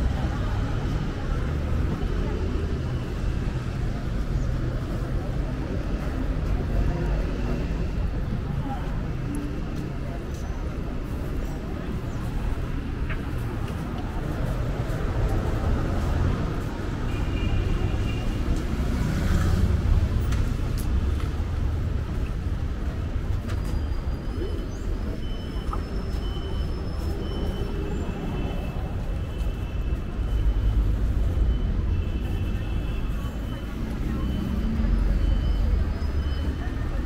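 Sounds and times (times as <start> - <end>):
rumble of moving vehicles: 0.0 - 37.0.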